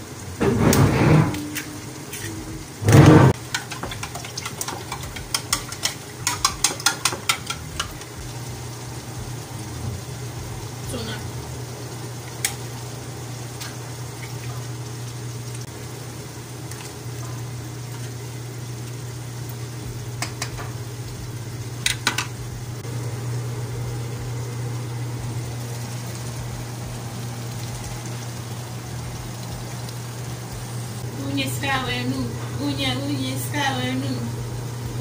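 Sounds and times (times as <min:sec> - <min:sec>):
steady low hum: 0:00.0 - 0:35.0
stew sizzling in frying pan: 0:00.0 - 0:35.0.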